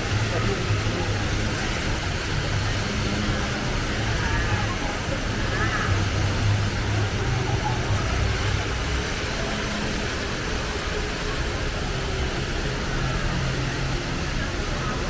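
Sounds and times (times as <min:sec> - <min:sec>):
indoor waterfall pouring: 0:00.0 - 0:15.0
murmur of crowd voices: 0:00.0 - 0:15.0.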